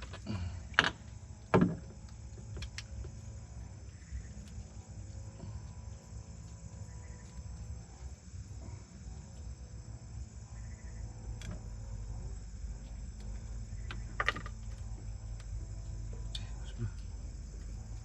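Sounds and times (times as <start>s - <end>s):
low hum: 0.0s - 18.0s
night insects chirring: 0.0s - 18.0s.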